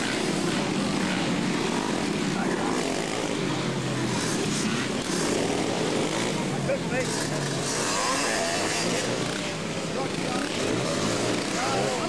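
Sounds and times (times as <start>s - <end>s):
racing three-wheeler engines: 0.0s - 12.0s.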